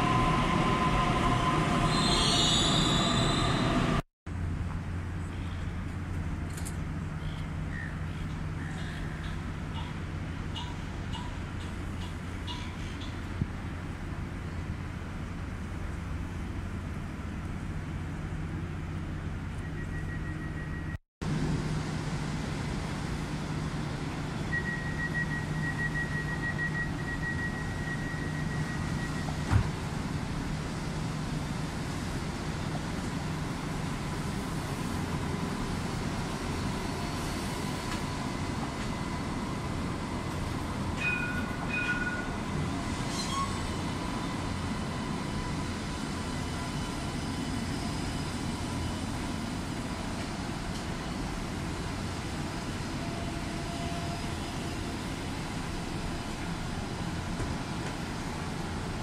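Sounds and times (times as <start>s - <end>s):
tram electrical hum: 0.0s - 59.0s
tram whine: 0.0s - 59.0s.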